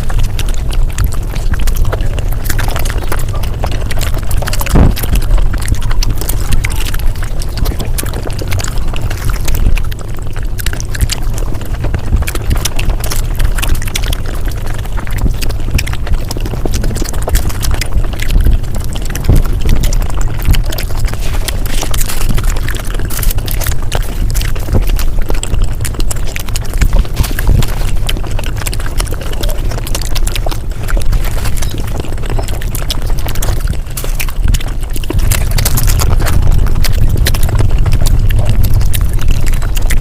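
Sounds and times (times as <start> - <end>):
low rumble: 0.0 - 40.0
rapid chewing clicks: 0.0 - 40.0.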